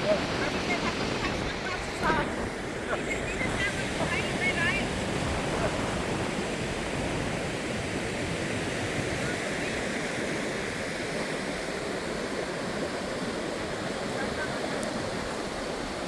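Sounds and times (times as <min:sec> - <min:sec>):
surf rushing: 0:00.0 - 0:16.0
wind buffeting microphone: 0:00.0 - 0:16.0.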